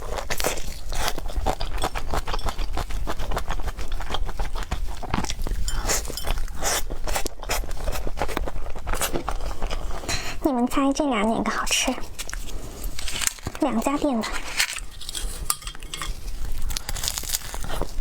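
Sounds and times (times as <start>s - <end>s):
close-miked chewing: 0.0s - 18.0s.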